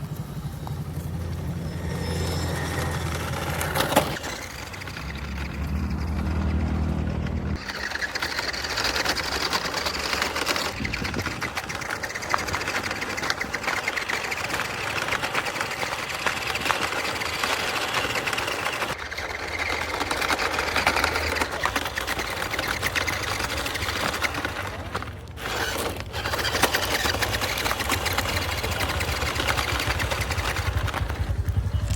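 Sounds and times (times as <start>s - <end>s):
toy car motor whirring: 0.4s - 31.9s.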